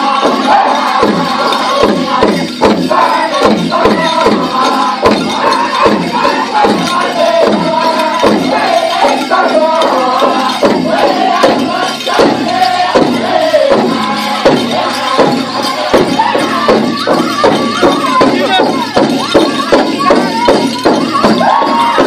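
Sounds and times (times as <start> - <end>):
big drum beat: 0.0 - 22.0
group singing: 0.0 - 22.0
jingling: 0.0 - 22.0.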